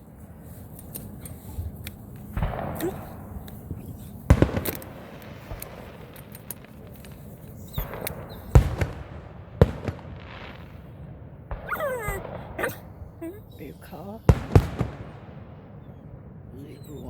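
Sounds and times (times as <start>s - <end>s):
fireworks bangs: 0.0s - 17.0s
fireworks crackles: 0.0s - 17.0s.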